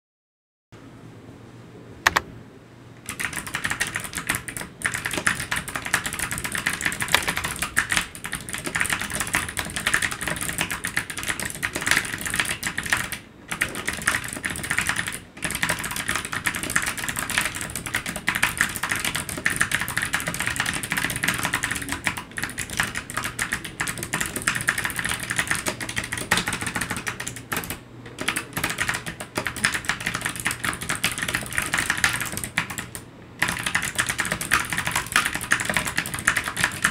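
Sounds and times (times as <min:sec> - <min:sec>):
fast keyboard typing clicks: 0:02.1 - 0:02.3, 0:03.0 - 0:36.9.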